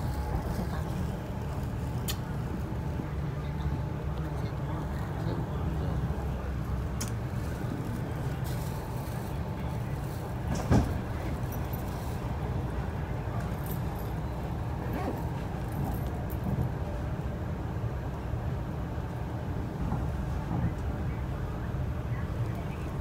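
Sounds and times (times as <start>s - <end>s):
train running low rumble: 0.0s - 23.0s.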